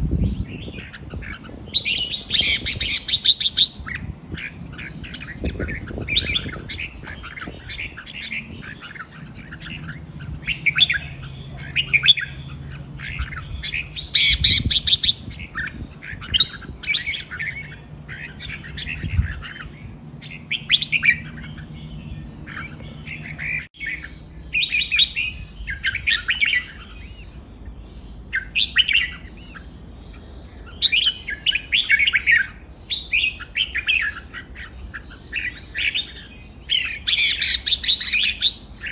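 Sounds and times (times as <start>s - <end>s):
birds chirping and warbling: 0.0s - 38.9s.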